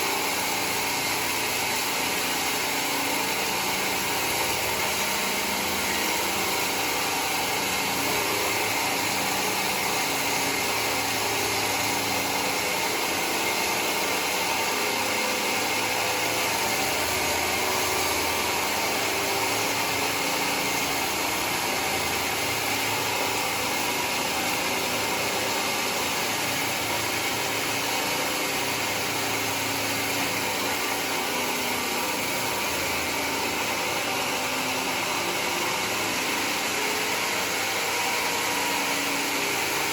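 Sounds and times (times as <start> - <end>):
sawmill humming: 0.0 - 39.9.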